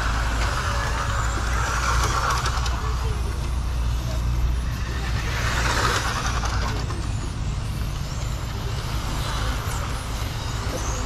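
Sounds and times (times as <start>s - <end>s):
radio-controlled car motors whining: 0.0s - 11.0s.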